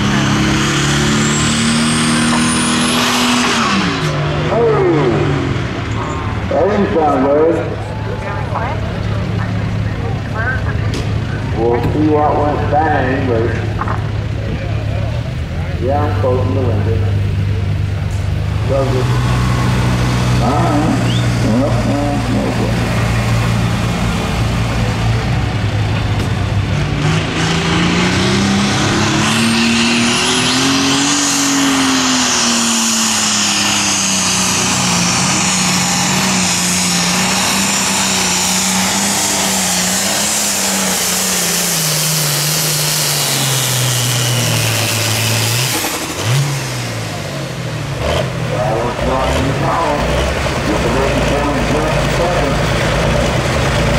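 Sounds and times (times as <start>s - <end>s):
tractor diesel engine revving: 0.0s - 53.9s.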